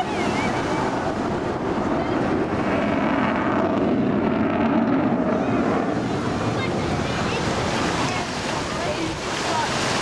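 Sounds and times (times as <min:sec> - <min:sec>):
jet aircraft noise: 0:00.0 - 0:10.0
wind on microphone: 0:00.0 - 0:10.0.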